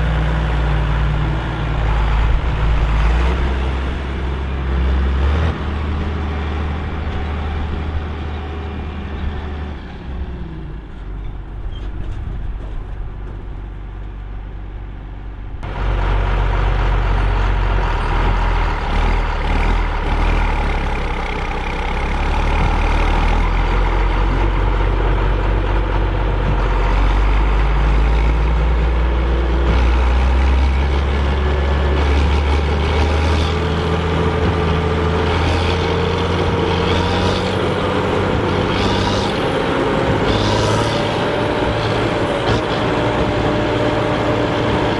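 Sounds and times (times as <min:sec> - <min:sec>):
tractor diesel engine drone: 0:00.0 - 0:44.9.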